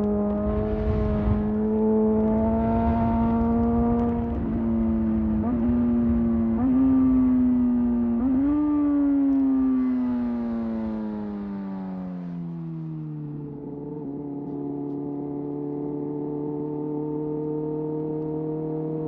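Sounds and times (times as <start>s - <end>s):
motorcycle engine downshifting: 0.0s - 16.8s.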